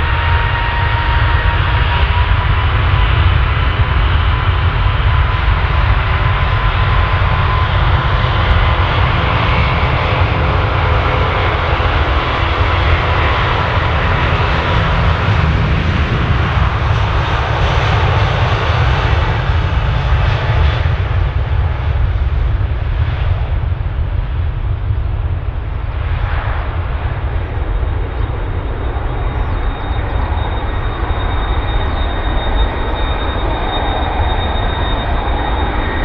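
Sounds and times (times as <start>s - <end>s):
faint engine whine: 0.0s - 36.0s
jet engines roaring at takeoff: 0.0s - 36.0s.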